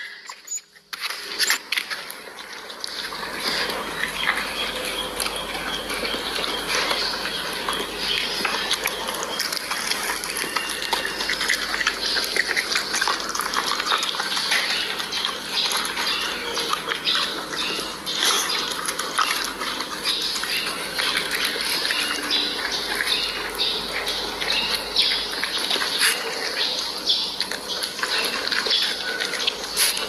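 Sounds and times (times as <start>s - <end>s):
dog chewing and smacking: 0.0s - 30.0s.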